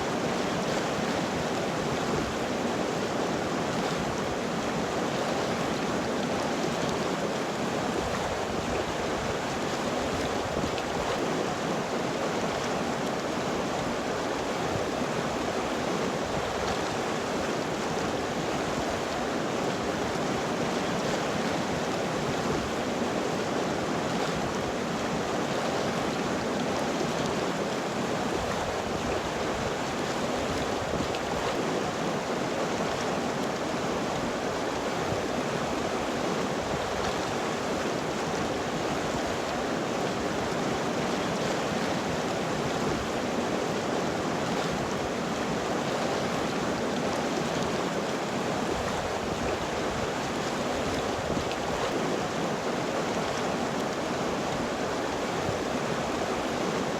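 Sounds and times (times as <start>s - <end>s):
river water flowing over rocks: 0.0s - 56.9s.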